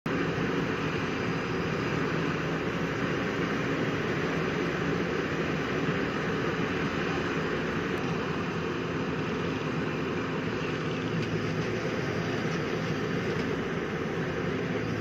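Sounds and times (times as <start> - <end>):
excavator diesel engine running: 0.1 - 15.0.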